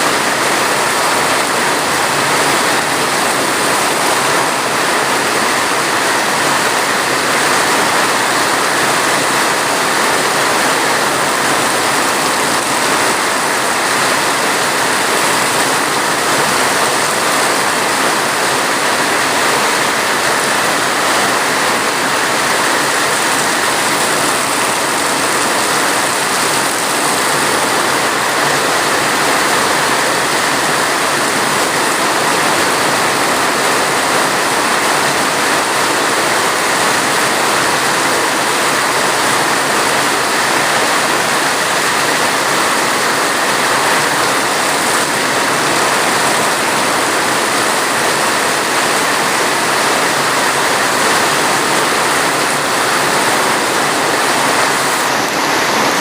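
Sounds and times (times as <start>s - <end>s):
steady heavy rain: 0.0s - 56.0s.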